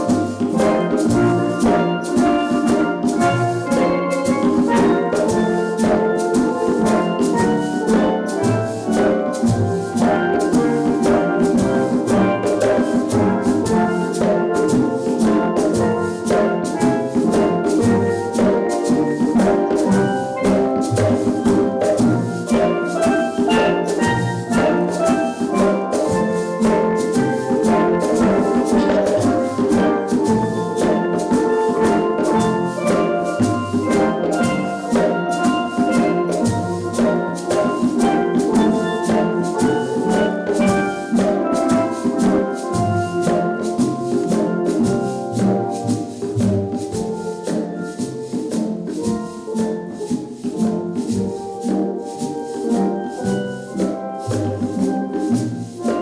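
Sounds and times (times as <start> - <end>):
steel drum band playing: 0.0 - 56.0.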